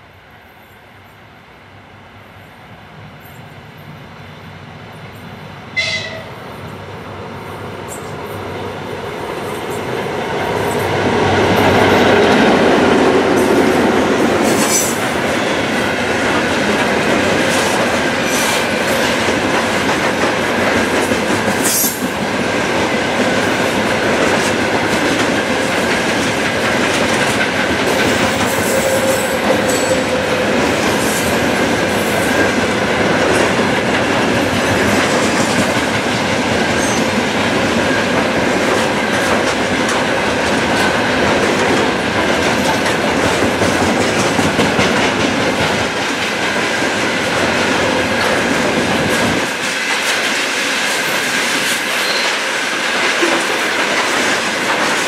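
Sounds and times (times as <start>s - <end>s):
diesel locomotive passing: 0.0s - 55.0s
train wheels clickety-clack: 7.8s - 55.0s.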